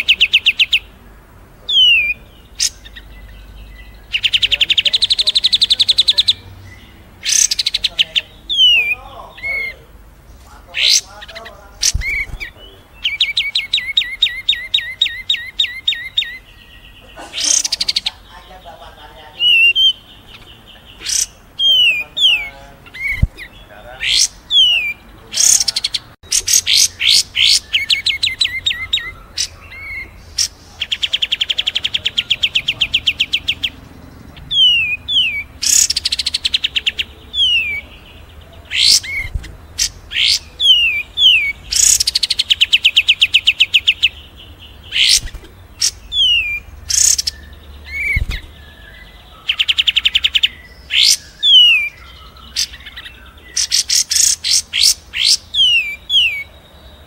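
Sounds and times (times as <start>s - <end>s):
small birds singing: 0.0s - 57.0s.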